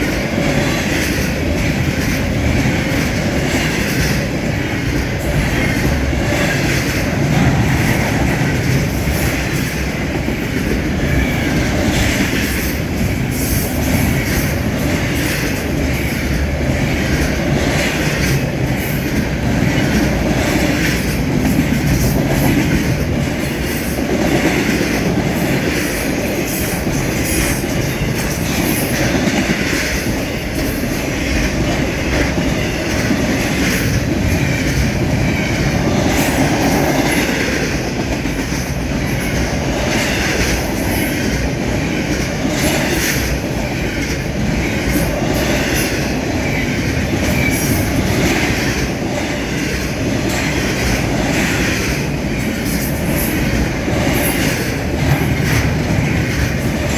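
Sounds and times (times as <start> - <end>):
train wheels clattering on rails: 0.0 - 56.9.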